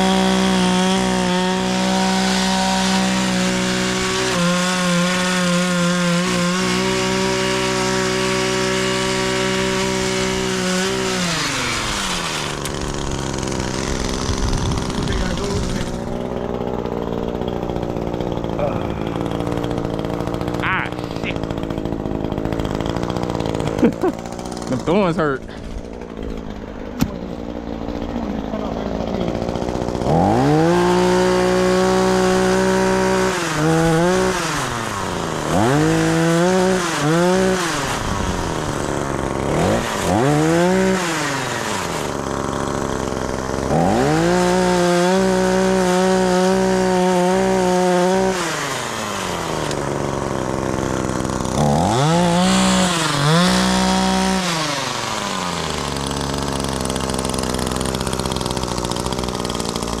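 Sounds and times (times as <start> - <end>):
chainsaw engine revving and idling: 0.0 - 60.0.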